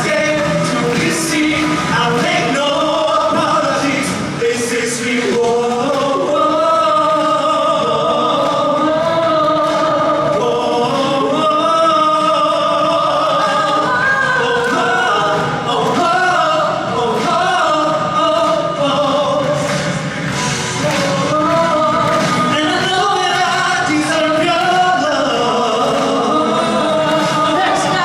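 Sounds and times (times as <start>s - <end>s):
pop backing track: 0.0s - 28.0s
vocal group singing in harmony: 0.0s - 28.0s.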